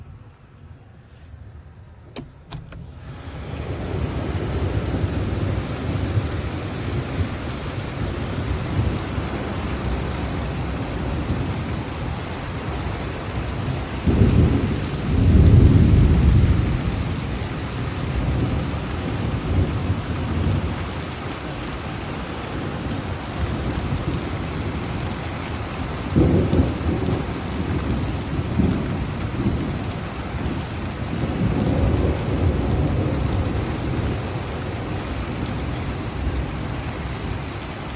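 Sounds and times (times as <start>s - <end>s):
heavy rain falling: 1.9s - 37.9s
thunder rumbling: 1.9s - 37.9s.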